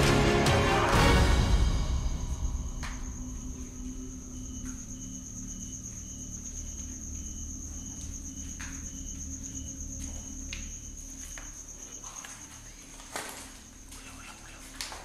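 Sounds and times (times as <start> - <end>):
crickets trilling: 1.0 - 15.0
low steady hum: 1.5 - 15.0
insect chirping in short pulses: 1.7 - 15.0.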